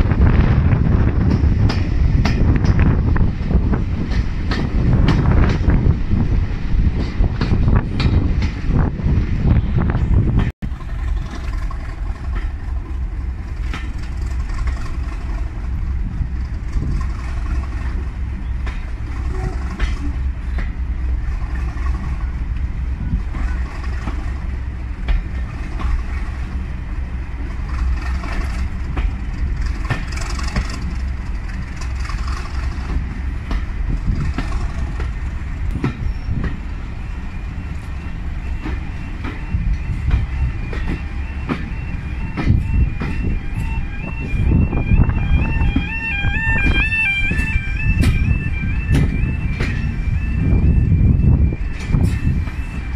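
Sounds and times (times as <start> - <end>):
railway carriage rumble: 0.0 - 52.9
wheels clicking on rails: 9.9 - 52.9.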